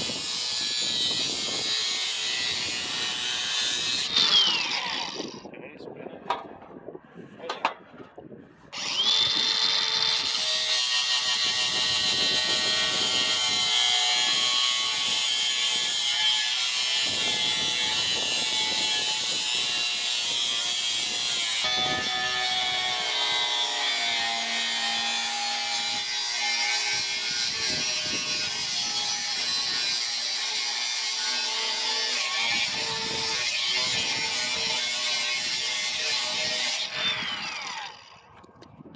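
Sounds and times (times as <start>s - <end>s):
electric grinder grinding metal pipe: 0.0s - 5.5s, 8.7s - 38.2s.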